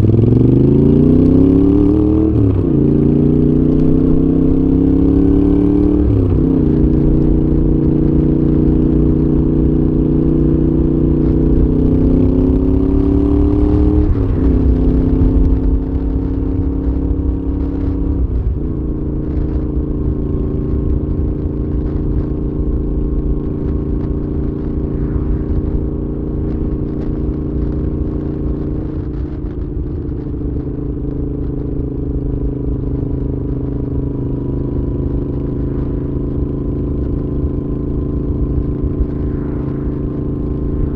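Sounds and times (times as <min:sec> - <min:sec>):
motorcycle engine riding: 0:00.0 - 0:40.9
wind rumble on microphone: 0:00.0 - 0:40.9.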